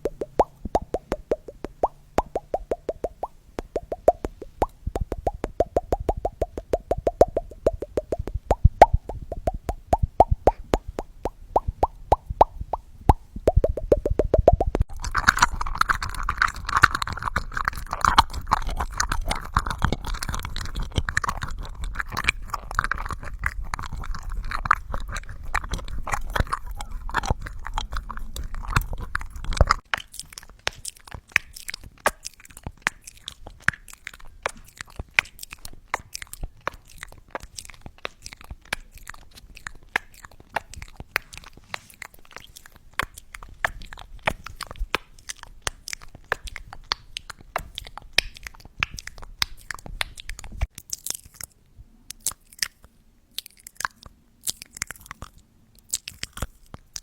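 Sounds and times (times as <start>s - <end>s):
dry mouth clicks: 0.0s - 57.0s
wet mouth clicks and smacks: 0.0s - 57.0s.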